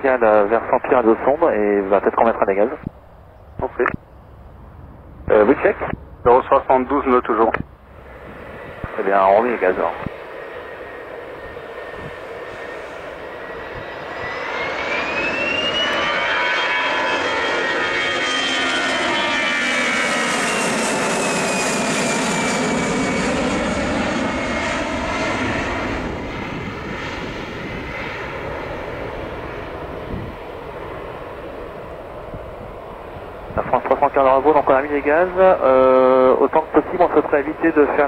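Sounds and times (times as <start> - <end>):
jet engines whining: 0.0 - 38.0.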